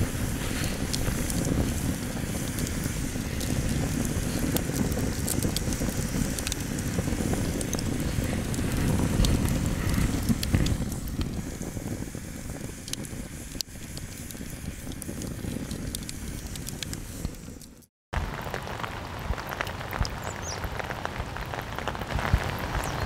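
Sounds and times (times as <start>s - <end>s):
logs crackling and popping: 0.0s - 23.0s
rush of flame: 0.0s - 23.0s.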